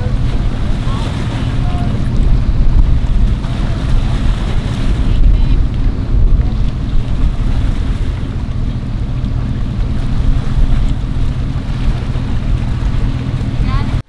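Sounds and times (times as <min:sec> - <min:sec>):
low engine rumble: 0:00.0 - 0:14.0
wind buffeting microphone: 0:00.0 - 0:14.0.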